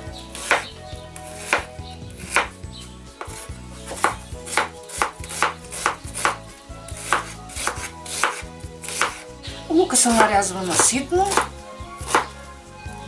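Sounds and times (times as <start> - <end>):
knife chopping on wooden board: 0.3 - 2.6, 3.2 - 9.2, 10.1 - 12.4.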